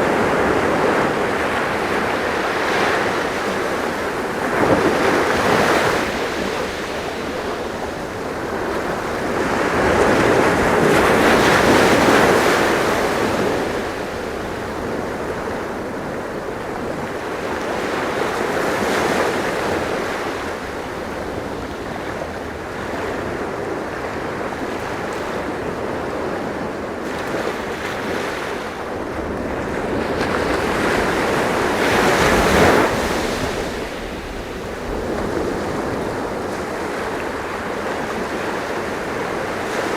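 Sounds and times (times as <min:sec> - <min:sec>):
ocean waves on shore: 0:00.0 - 0:39.9
wind: 0:00.0 - 0:39.9.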